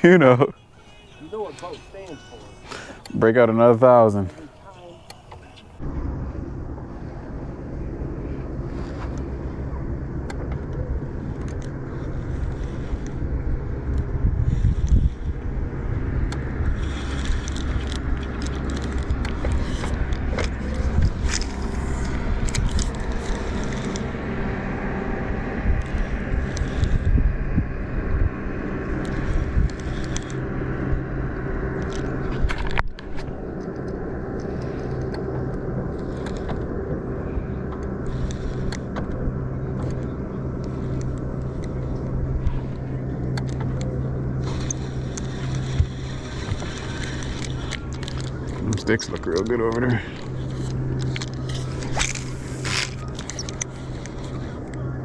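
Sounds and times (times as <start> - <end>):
boat motor droning: 0.0 - 55.0
wind noise: 0.0 - 55.0.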